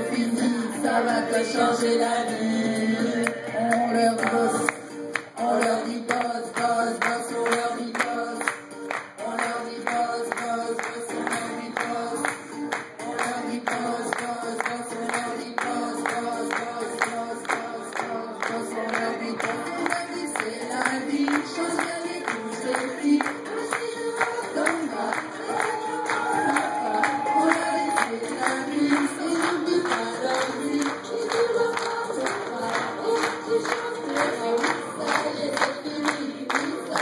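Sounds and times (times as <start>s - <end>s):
women singing into microphones: 0.0s - 8.6s, 9.2s - 37.0s.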